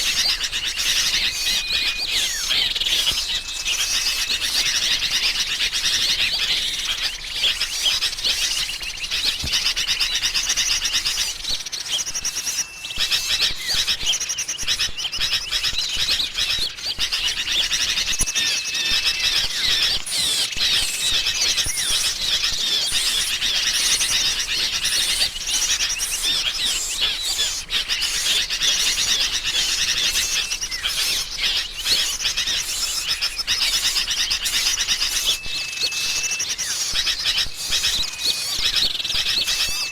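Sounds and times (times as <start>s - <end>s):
birds chattering alarm calls: 0.0s - 39.9s.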